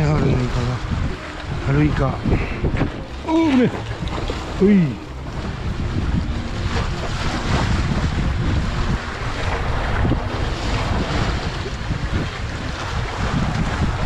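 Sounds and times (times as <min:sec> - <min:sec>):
sea waves splashing on concrete blocks: 0:00.0 - 0:14.0
wind buffeting microphone: 0:00.0 - 0:14.0.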